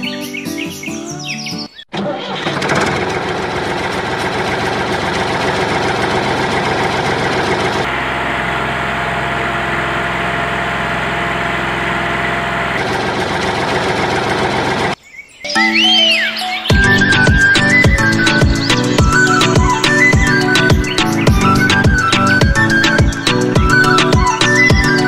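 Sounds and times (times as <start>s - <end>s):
diesel tractor engine running: 1.9s - 15.0s, 16.7s - 25.0s.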